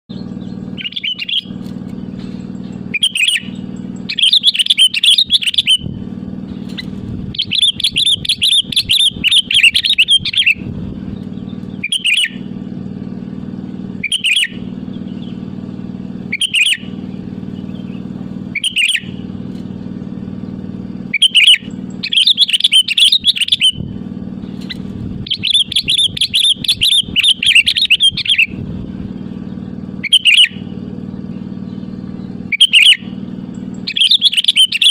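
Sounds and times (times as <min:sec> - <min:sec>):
bird singing: 0:00.1 - 0:34.9
steady low hum: 0:00.1 - 0:34.9.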